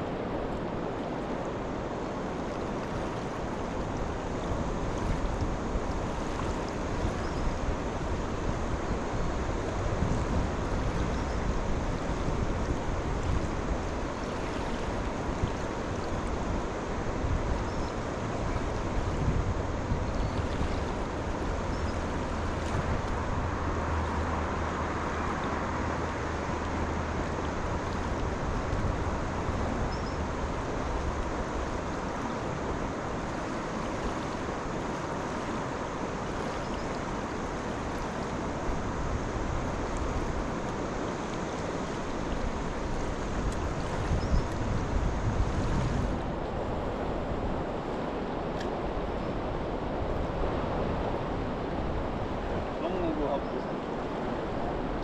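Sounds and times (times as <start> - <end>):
river water flowing: 0.0 - 55.0
wind rumble on microphone: 0.0 - 55.0.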